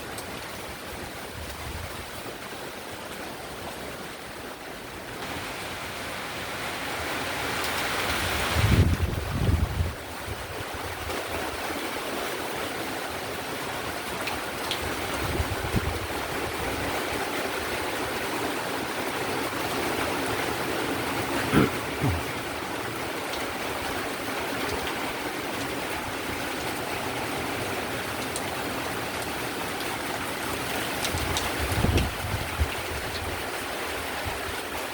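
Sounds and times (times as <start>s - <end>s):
heavy rain hissing: 3.8s - 34.9s.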